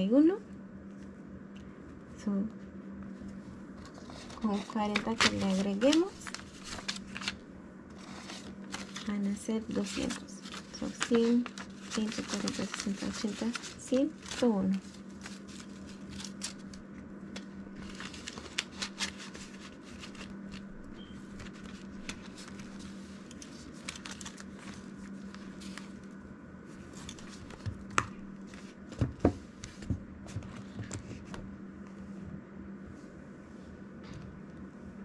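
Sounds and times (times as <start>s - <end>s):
banknotes rustling and flicking: 3.2s - 31.4s.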